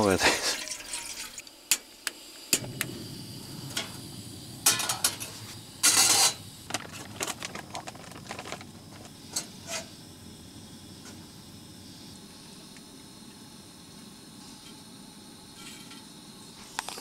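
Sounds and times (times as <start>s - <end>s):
stove humming: 0.0s - 17.0s.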